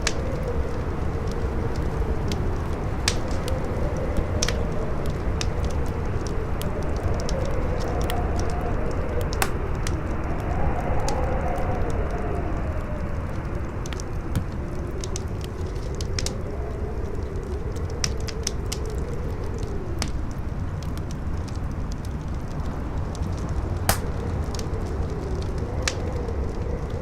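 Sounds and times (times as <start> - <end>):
campfire crackling: 0.0 - 27.0
strong wind howling: 0.0 - 27.0.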